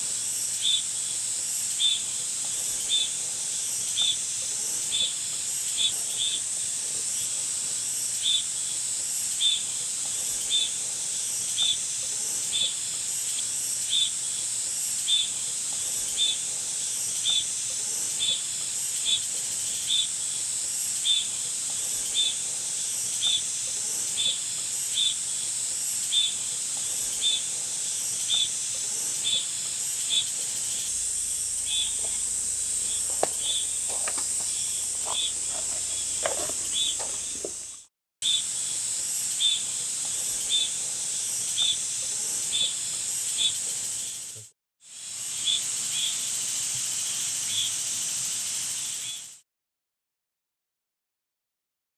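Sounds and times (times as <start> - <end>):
insect chorus hiss: 0.0 - 49.4.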